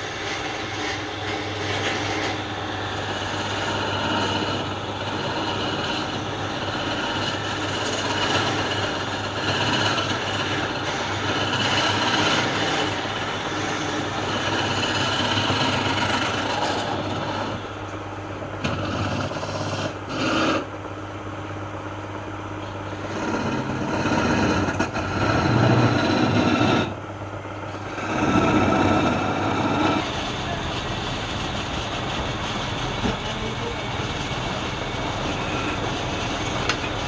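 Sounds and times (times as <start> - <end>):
power tool rasping wood: 0.0 - 17.8, 18.4 - 20.7, 22.9 - 27.0, 27.7 - 37.0.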